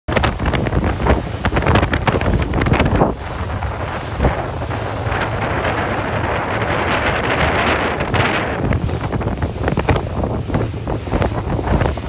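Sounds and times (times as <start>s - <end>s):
rushing water: 0.1s - 12.0s
wind buffeting microphone: 0.1s - 12.0s.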